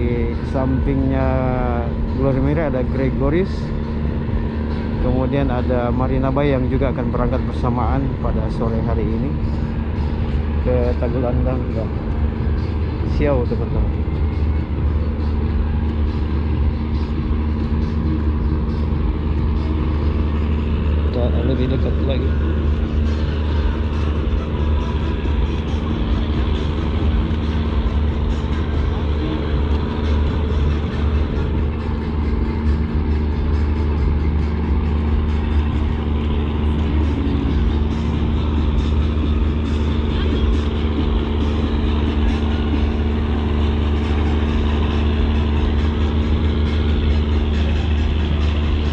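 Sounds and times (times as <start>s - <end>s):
diesel engines droning: 0.0s - 48.9s
steady hum: 0.0s - 48.9s.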